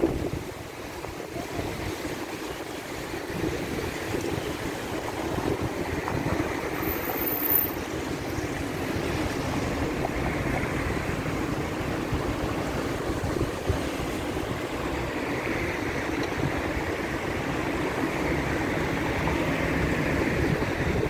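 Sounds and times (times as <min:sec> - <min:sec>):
street traffic: 0:00.0 - 0:21.0
surf washing: 0:00.0 - 0:21.0
wind on microphone: 0:00.0 - 0:21.0.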